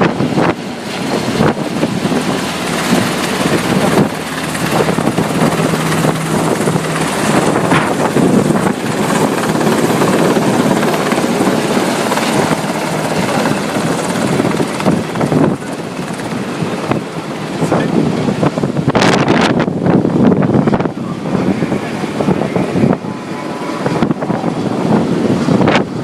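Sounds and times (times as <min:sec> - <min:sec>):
helicopter rotor and turbine: 0:00.0 - 0:26.0.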